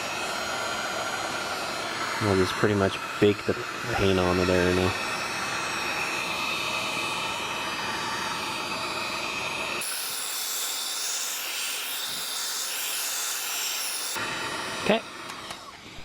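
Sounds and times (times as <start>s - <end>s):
heat gun blowing air: 0.0s - 16.0s.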